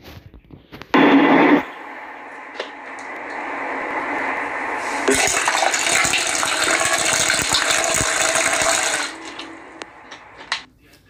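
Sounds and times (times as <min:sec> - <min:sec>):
rushing hissing noise: 0:01.0 - 0:10.7.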